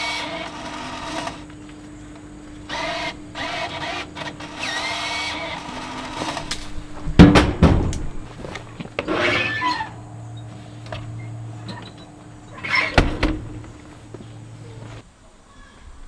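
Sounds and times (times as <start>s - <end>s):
gear knocks and clicks: 0.0s - 15.0s.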